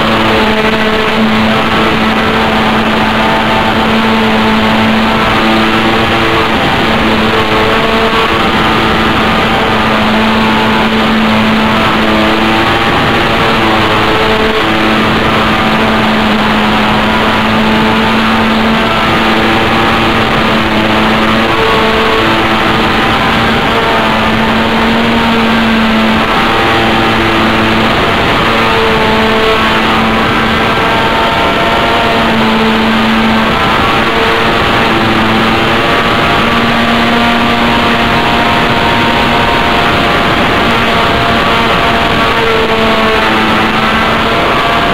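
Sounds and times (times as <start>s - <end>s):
model airplane engine running: 0.0s - 44.9s.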